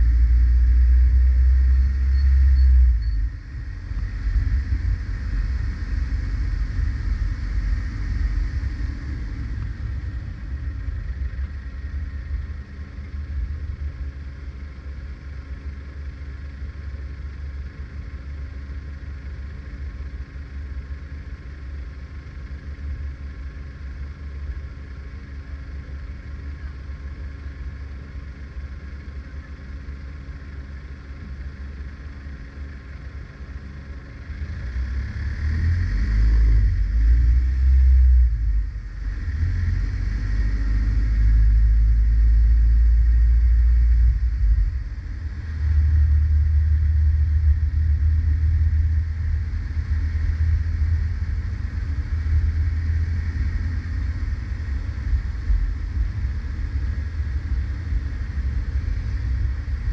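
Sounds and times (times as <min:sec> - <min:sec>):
car engine rumble: 0:00.0 - 0:59.9.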